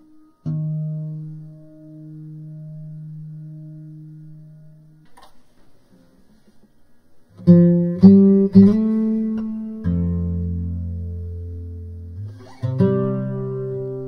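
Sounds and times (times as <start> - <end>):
plucked guitar notes: 0.0 - 5.4, 7.4 - 14.0.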